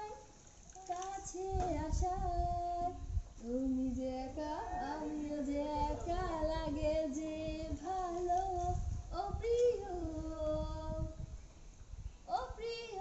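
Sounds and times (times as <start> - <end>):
high female voice singing: 0.8 - 11.2, 12.3 - 13.0.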